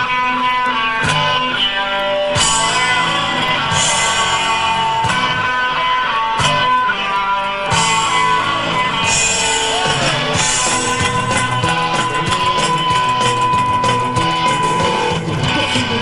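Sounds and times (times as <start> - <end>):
bass: 0.0 - 16.0
drums: 0.0 - 16.0
guitars: 0.0 - 16.0.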